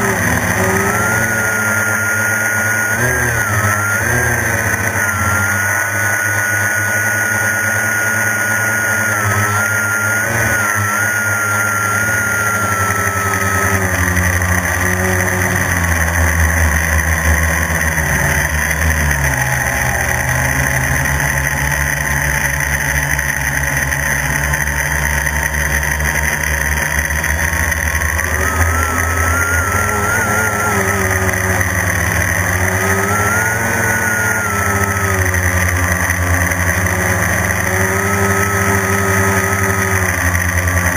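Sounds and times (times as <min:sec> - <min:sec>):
quadcopter propellers buzzing: 0:00.0 - 0:40.9.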